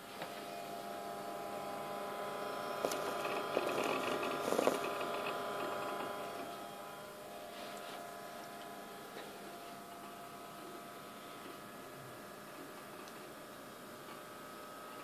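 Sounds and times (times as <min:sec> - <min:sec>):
computer fan and drive hum: 0:00.0 - 0:15.0.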